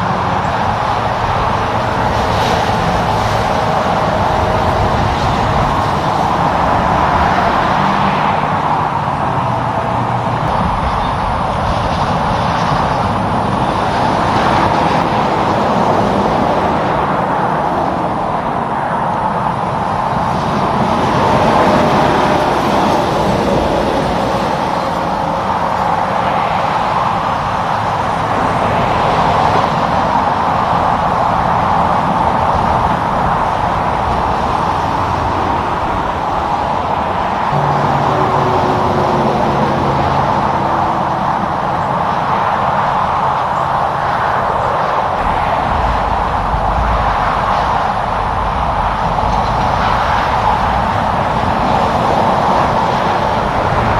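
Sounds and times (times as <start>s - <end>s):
highway traffic roar: 0.0s - 53.9s.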